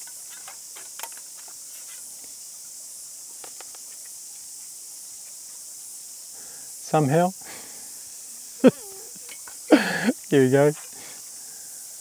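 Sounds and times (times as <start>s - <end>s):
high-pitched forest hiss: 0.0s - 12.0s.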